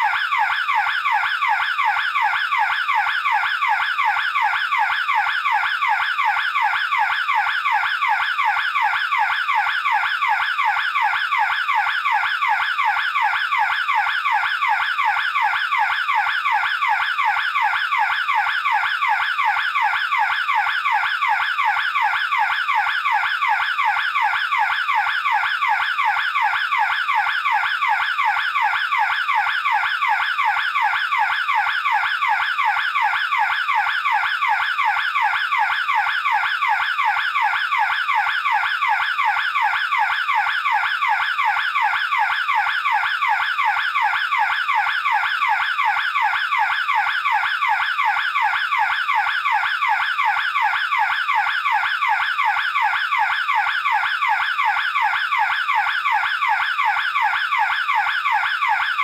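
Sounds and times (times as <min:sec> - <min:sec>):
burglar alarm siren: 0:00.0 - 0:59.0.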